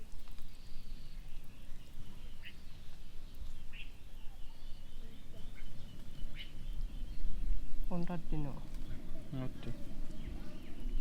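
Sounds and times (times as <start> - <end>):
bird chirps: 0.4 - 11.0.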